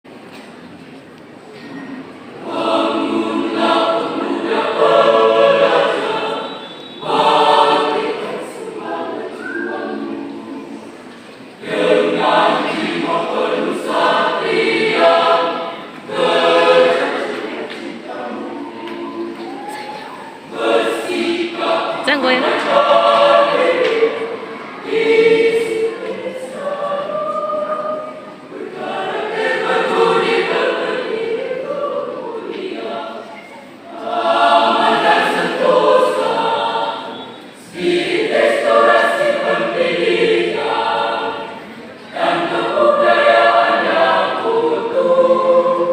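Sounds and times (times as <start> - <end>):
mixed choir singing: 2.3 - 45.9.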